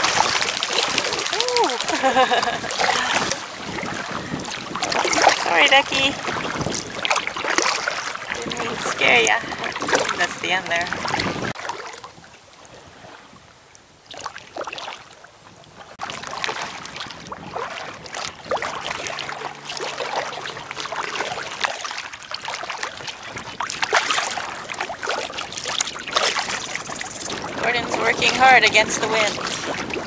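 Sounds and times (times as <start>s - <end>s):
paddle dipping and splashing: 0.0s - 30.0s
water lapping around raft: 0.0s - 30.0s.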